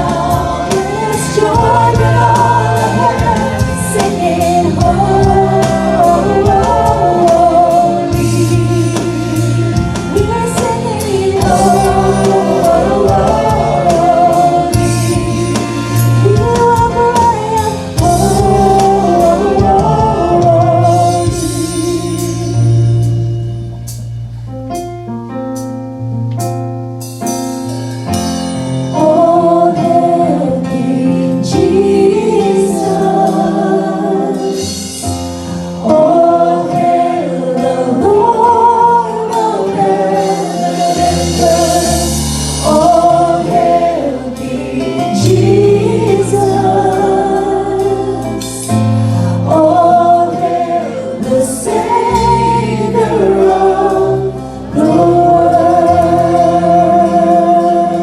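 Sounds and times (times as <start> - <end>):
group singing worship song: 0.0 - 23.3, 28.8 - 58.0
band accompaniment: 0.0 - 58.0.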